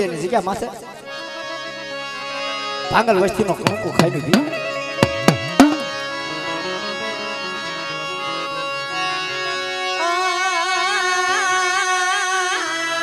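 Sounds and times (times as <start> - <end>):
harmonium holding notes: 0.0 - 13.0.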